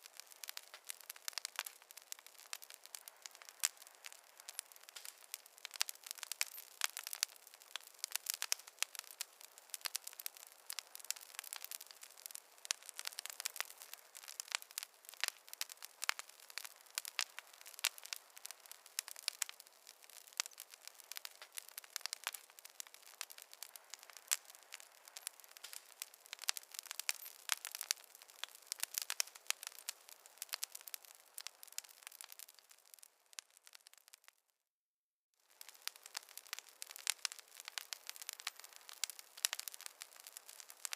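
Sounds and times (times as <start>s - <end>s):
wood fire crackling and popping: 0.0s - 34.4s, 35.4s - 40.9s.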